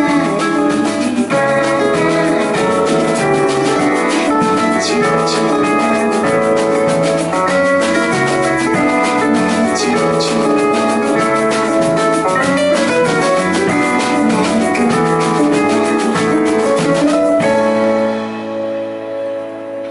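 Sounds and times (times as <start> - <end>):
live band playing: 0.0 - 19.9.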